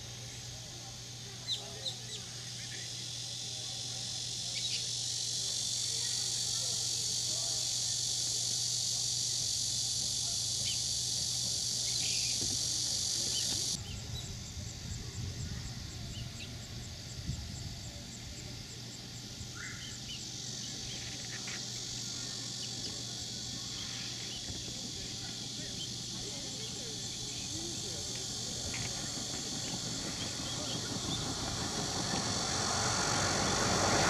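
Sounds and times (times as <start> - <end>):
fast insect chirping: 0.0 - 34.0
insects chorus: 0.0 - 34.0.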